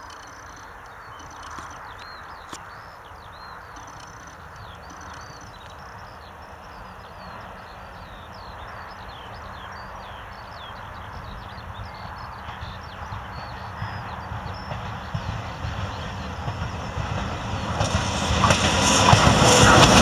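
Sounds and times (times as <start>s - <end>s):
birds chirping: 0.0s - 20.0s
locomotive rumble: 0.0s - 20.0s.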